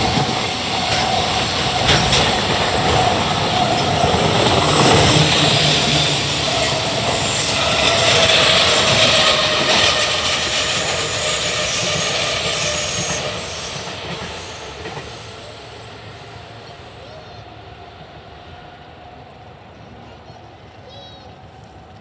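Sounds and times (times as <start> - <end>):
freight train rolling on rails: 0.0 - 22.0.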